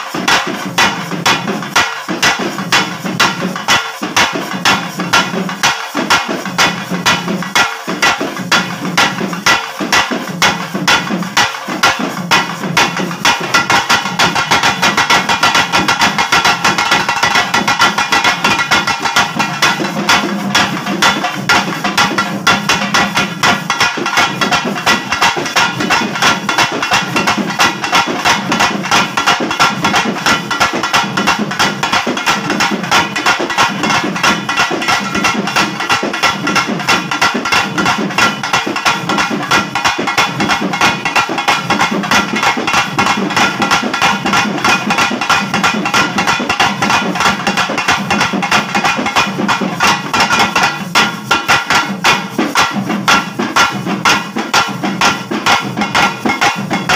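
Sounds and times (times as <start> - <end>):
drums beaten fast with sticks: 0.0 - 56.9.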